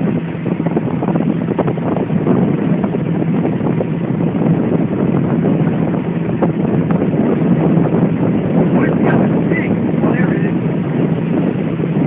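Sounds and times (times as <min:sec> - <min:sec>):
churning wake rushing: 0:00.0 - 0:12.0
motorboat engine running: 0:00.0 - 0:12.0
wind buffeting microphone: 0:00.0 - 0:12.0.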